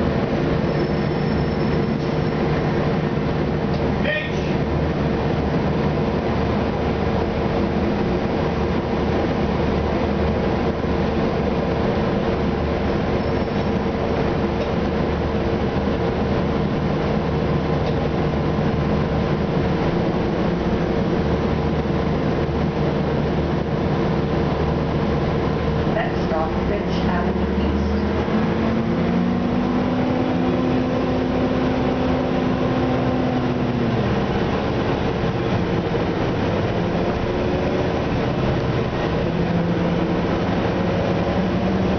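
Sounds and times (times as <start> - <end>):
bus engine drone: 0.0 - 41.9.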